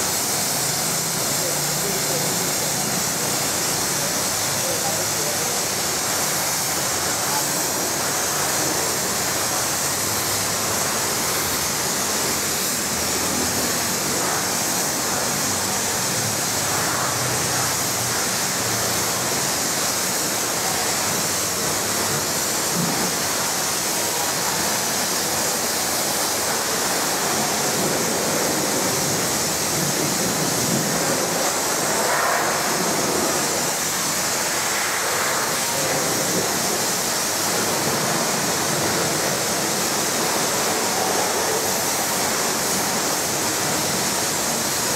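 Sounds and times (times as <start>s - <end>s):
pressure washer spraying: 0.0s - 44.9s.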